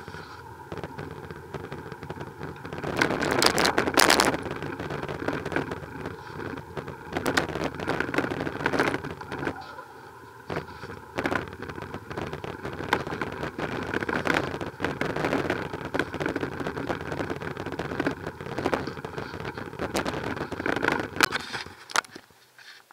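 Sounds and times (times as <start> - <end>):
bicycle tyre and wind rush: 0.0 - 22.2
bicycle knocks and rattles: 0.0 - 22.3.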